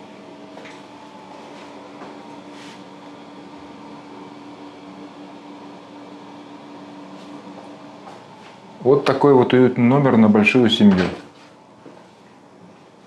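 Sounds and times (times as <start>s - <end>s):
fan-driven machine humming: 0.0s - 13.0s.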